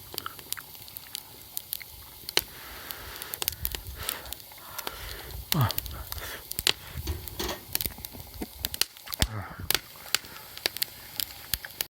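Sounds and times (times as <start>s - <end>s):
campfire crackling and popping: 0.0s - 11.9s.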